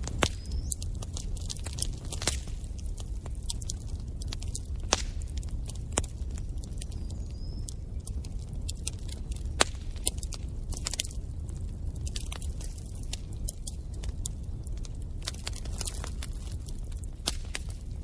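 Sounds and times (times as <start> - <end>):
fire popping and snapping: 0.0 - 18.0
low rumble of fire: 0.0 - 18.0.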